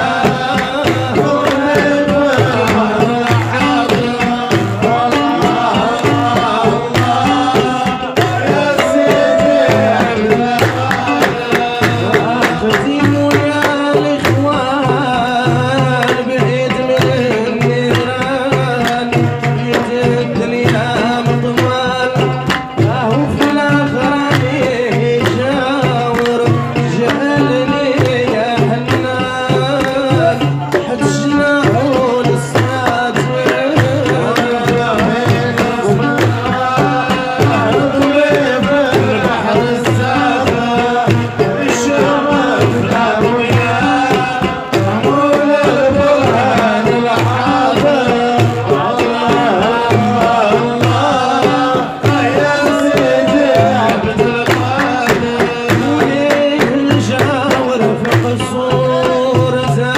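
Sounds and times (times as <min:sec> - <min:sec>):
hand-clapping: 0:00.0 - 0:14.9, 0:15.5 - 0:48.6, 0:49.2 - 0:59.4
hand drum beat: 0:00.0 - 0:59.9
men singing: 0:00.0 - 0:59.9.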